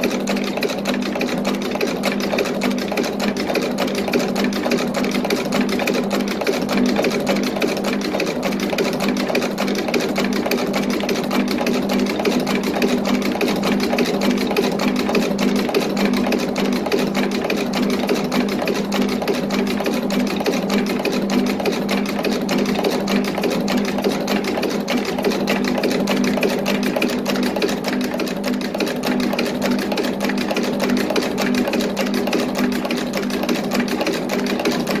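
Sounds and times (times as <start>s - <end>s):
machine clattering: 0.0s - 35.0s.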